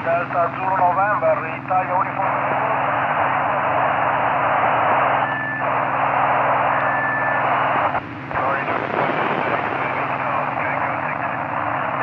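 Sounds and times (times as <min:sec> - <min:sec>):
radio receiver hiss: 0:00.0 - 0:12.0
steady low telemetry buzz: 0:00.0 - 0:12.0.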